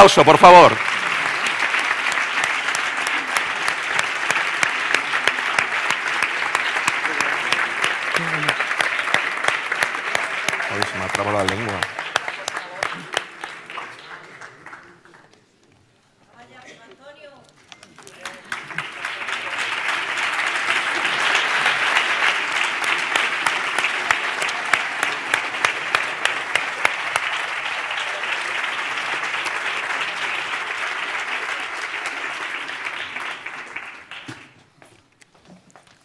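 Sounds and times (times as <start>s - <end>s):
audience applauding: 0.0s - 15.6s, 17.8s - 34.7s.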